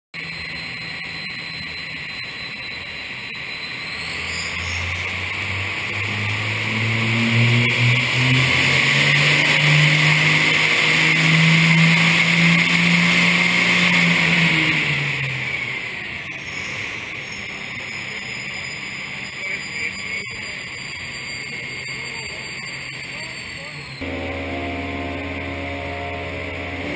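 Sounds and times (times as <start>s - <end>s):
diesel engine at full throttle: 0.1s - 26.9s.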